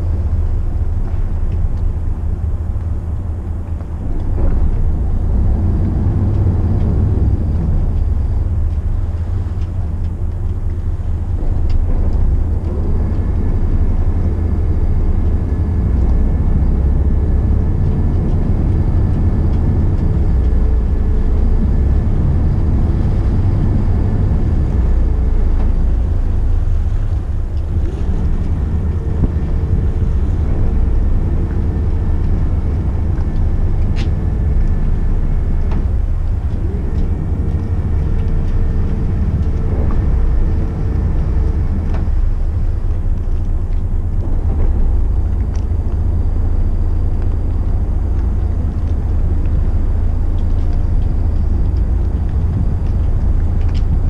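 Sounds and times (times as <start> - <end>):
boat engines low rumble: 0.0 - 54.0
steady whine: 0.0 - 54.0
wind on microphone: 0.0 - 54.0.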